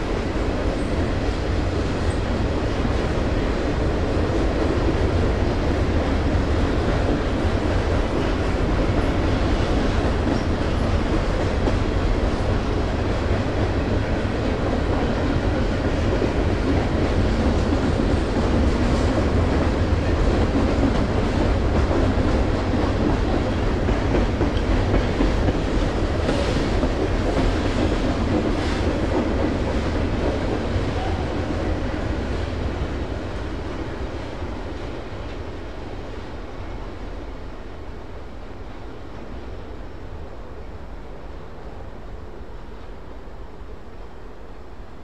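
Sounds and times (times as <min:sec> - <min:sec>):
train wheels on track: 0:00.0 - 0:45.0.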